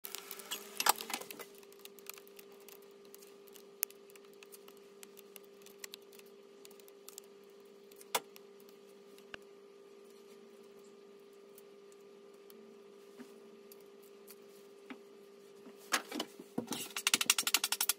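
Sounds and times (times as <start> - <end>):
steady hum: 0.0 - 17.9.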